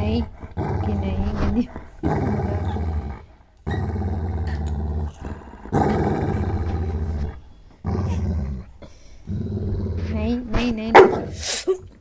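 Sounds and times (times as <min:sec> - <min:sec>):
dog growling: 0:00.0 - 0:10.4.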